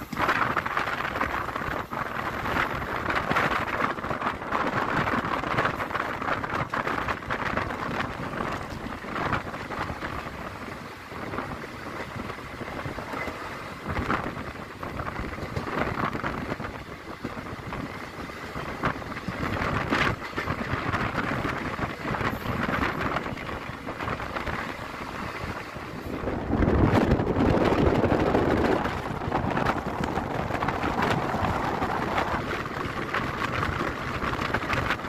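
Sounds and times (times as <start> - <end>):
loud train clanks: 0.0 - 35.0
train wheels rumbling on rails: 0.0 - 35.0
wind buffeting microphone: 0.0 - 35.0.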